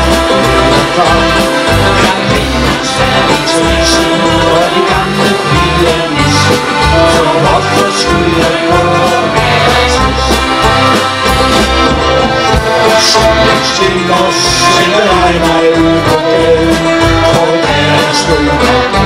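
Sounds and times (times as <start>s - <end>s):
accordion chords and melody: 0.0s - 19.0s
pulsing bass beat: 0.0s - 19.0s.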